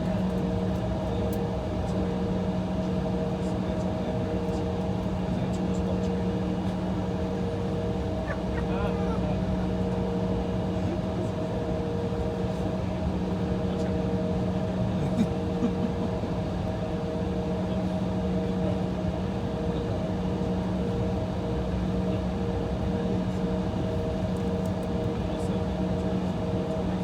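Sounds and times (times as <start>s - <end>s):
aircraft cabin engine hum: 0.0s - 27.0s.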